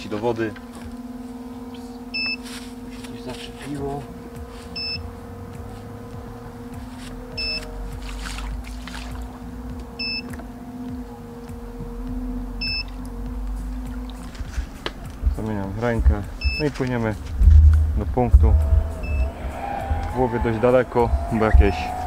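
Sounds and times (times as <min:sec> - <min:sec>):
electric motors humming: 0:00.0 - 0:22.0.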